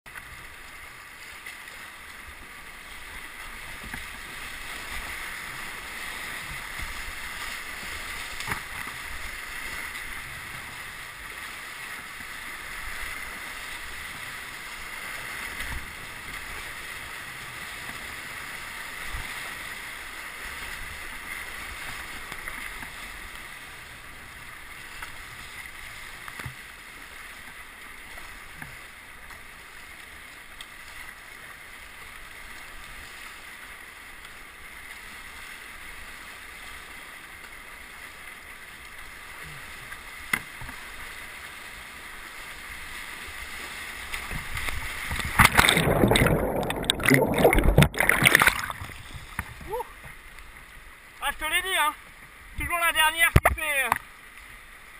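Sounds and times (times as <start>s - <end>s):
whitewater rushing and splashing: 0.1s - 54.9s.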